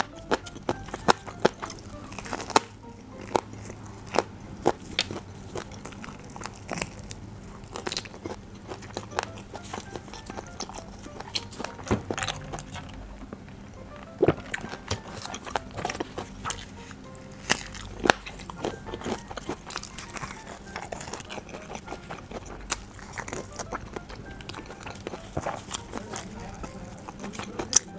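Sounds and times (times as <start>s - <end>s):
crunching bites: 0.0s - 27.9s
person chewing food: 0.0s - 27.9s
quiet background music: 0.0s - 27.9s.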